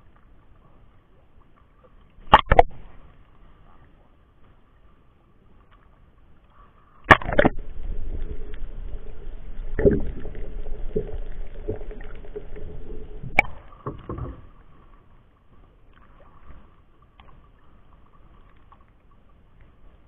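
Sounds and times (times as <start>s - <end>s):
muffled water sloshing: 0.0s - 20.0s.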